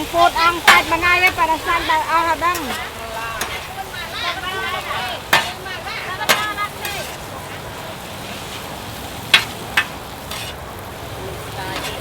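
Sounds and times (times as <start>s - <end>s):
food frying and sizzling: 0.0s - 12.0s.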